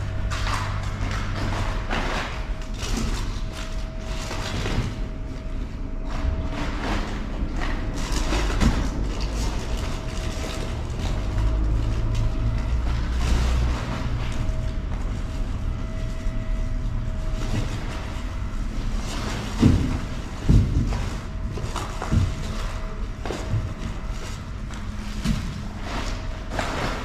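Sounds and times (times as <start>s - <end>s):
low mechanical hum: 0.0s - 27.0s
rustles and knocks in bin: 0.0s - 27.0s.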